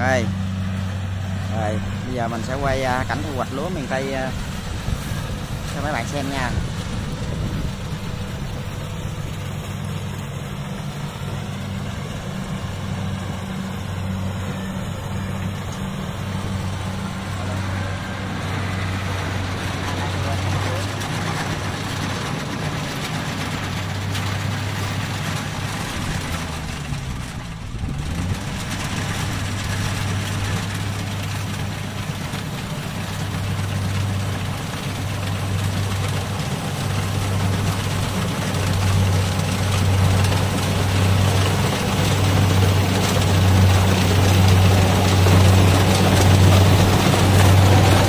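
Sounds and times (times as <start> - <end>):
combine harvester engine hum: 0.0 - 48.0
machinery noise: 0.0 - 48.0.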